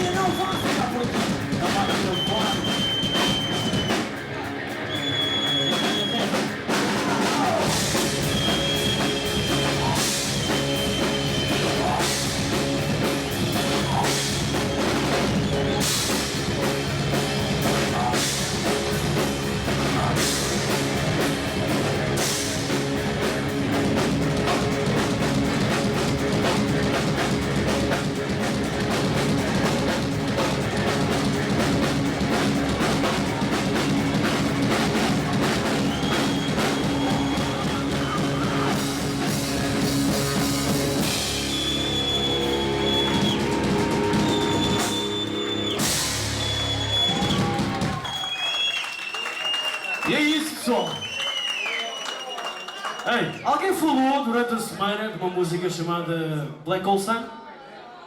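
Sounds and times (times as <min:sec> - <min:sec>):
electric guitar: 0:00.0 - 0:48.0
live rock band playing: 0:00.0 - 0:48.3
drum kit and cymbals: 0:00.0 - 0:48.4.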